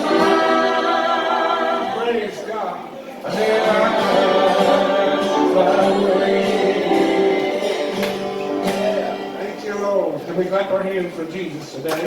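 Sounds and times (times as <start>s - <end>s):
group singing a gospel hymn: 0.0s - 10.2s.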